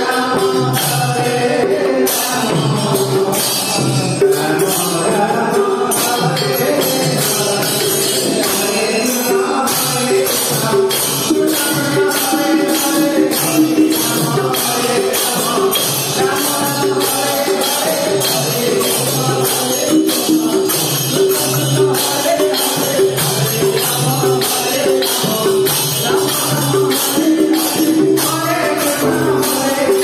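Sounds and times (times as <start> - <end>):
jingling metallic beat: 0.0 - 30.0.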